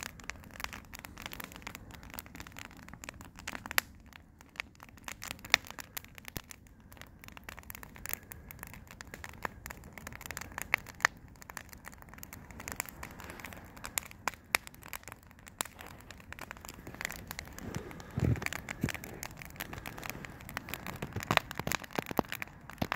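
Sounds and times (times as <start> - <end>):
campfire crackling and popping: 0.0 - 22.9
fire hissing: 0.0 - 22.9.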